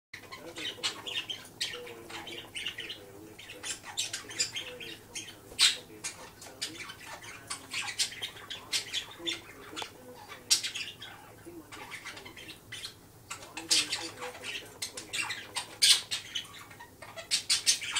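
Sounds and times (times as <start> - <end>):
budgerigar chattering: 0.2 - 17.9.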